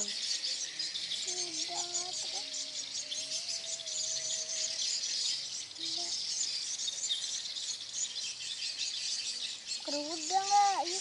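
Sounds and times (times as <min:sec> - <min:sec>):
many small birds chirping: 0:00.0 - 0:11.0.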